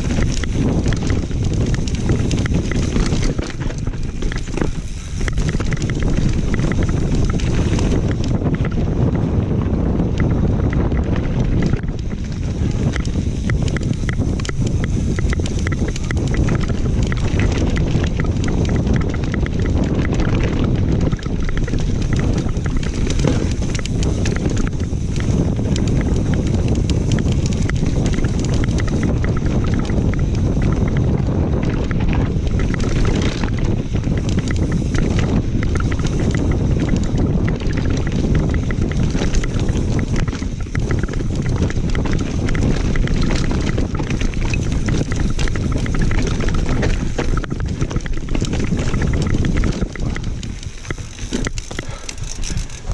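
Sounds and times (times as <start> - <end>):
bike rattling over rough trail: 0.0 - 52.9
wind buffeting microphone: 0.0 - 52.9.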